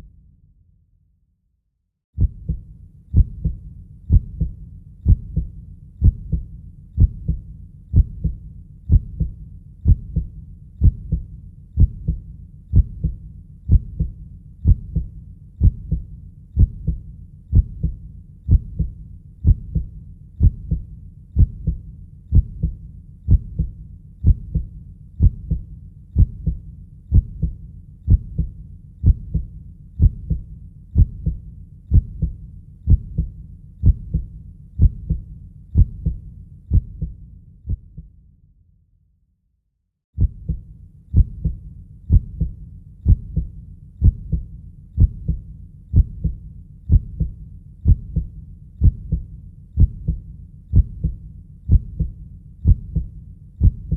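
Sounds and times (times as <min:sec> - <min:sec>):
heartbeat thumps: 0:02.2 - 0:38.1, 0:40.2 - 0:53.9.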